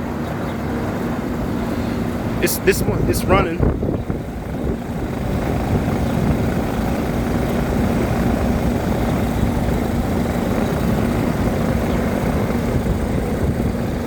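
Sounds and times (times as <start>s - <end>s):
condenser fan whoosh: 0.0s - 14.0s
low hum of air conditioner: 0.0s - 14.0s.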